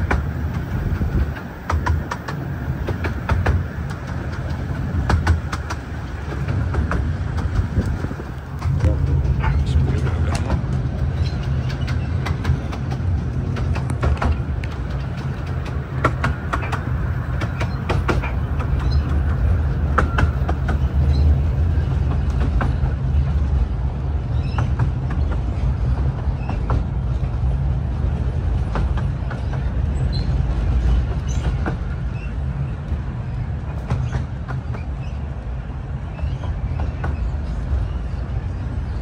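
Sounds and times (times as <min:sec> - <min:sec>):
train carriage rumble: 0:00.0 - 0:39.0.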